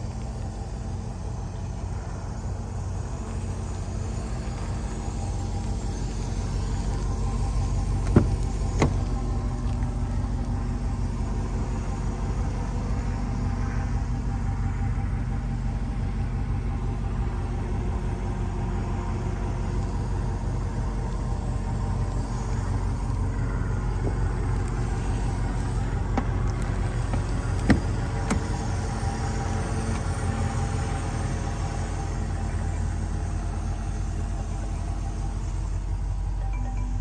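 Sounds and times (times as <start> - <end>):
car engine low rumble: 0.0 - 37.0.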